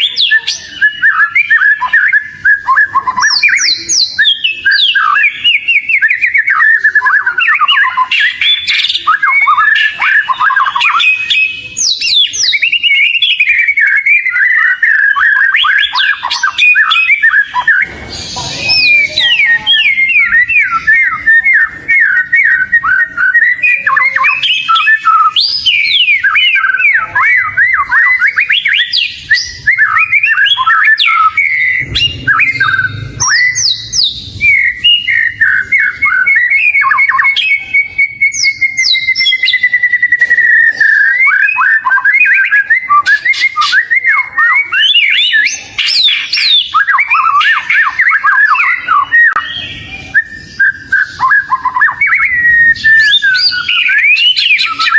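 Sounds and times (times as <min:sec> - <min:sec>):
magpie-robin singing: 0:00.0 - 0:54.9.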